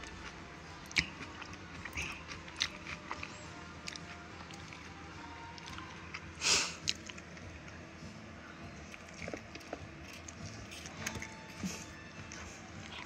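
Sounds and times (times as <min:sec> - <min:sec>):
person chewing: 0:00.0 - 0:04.9, 0:05.5 - 0:07.5, 0:08.9 - 0:13.0
sharp eating noise: 0:00.0 - 0:07.8, 0:08.8 - 0:13.0.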